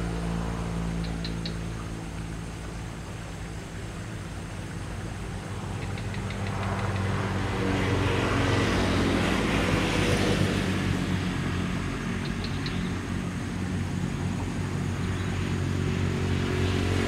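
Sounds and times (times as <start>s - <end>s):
steady low hum: 0.0s - 17.0s
vehicle driving past: 0.0s - 17.0s.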